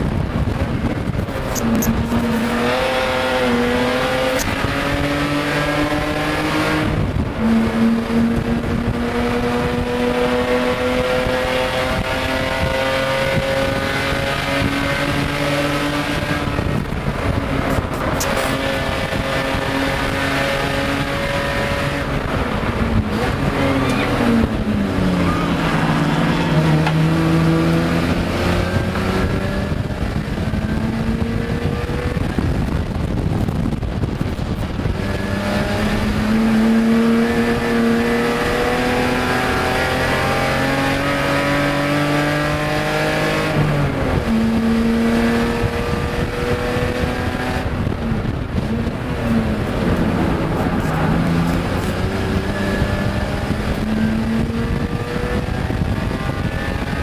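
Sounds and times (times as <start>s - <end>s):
race car engine under load: 0.0s - 57.0s
road and wind noise: 0.0s - 57.0s.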